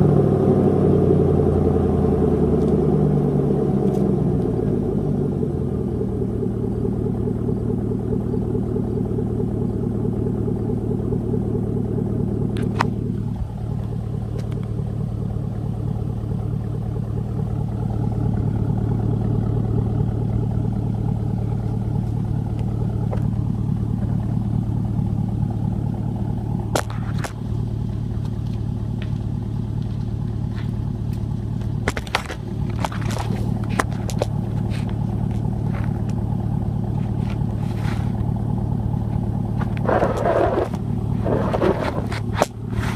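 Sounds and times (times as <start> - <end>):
engine idling through straight pipe: 0.0 - 42.9.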